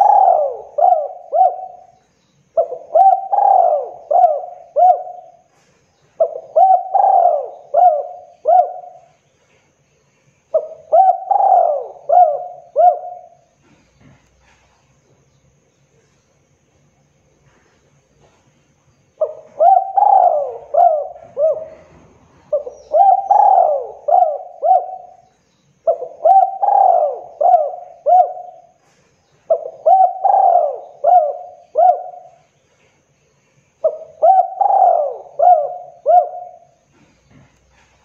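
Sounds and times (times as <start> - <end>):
dove cooing: 0.0 - 9.2, 10.5 - 14.7, 19.2 - 32.6, 33.8 - 38.0.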